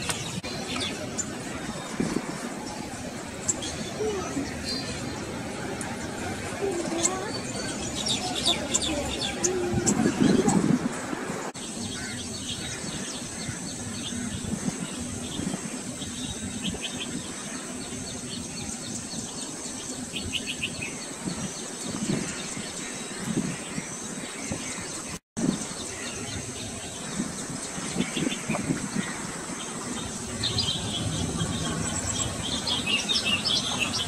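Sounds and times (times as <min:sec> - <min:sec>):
birds chirping: 0:00.0 - 0:34.0
steady background hiss: 0:00.0 - 0:34.0.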